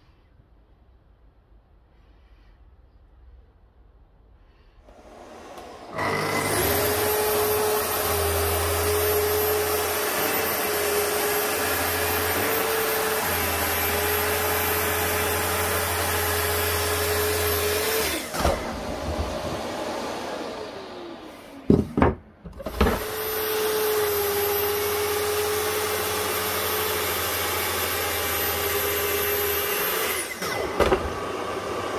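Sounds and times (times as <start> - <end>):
power tool motor whining: 4.9 - 21.6, 22.6 - 31.9.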